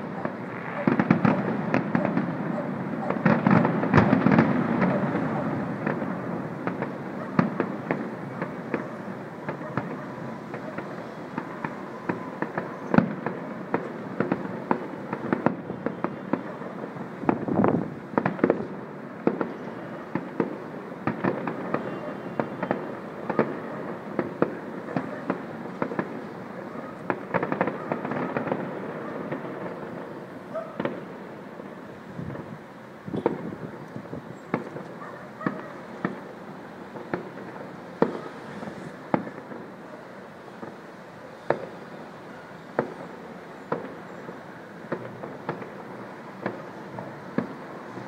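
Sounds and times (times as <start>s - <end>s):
fireworks popping and banging: 0.0s - 42.0s, 42.6s - 48.0s.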